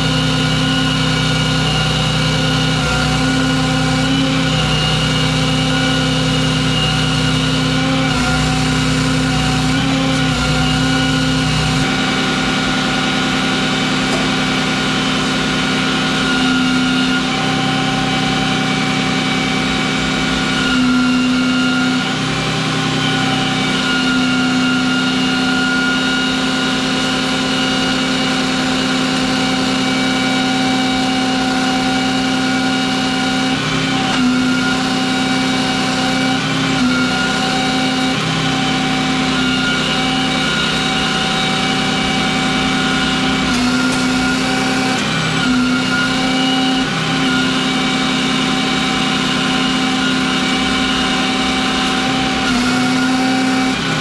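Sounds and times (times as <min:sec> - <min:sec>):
truck engine drone with whine: 0:00.0 - 0:54.0.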